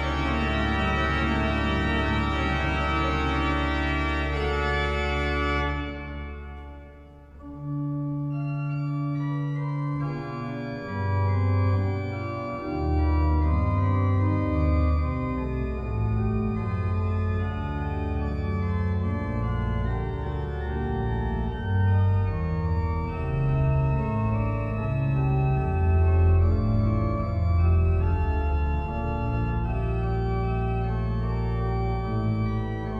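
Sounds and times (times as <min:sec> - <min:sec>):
organ music: 0:00.0 - 0:32.9.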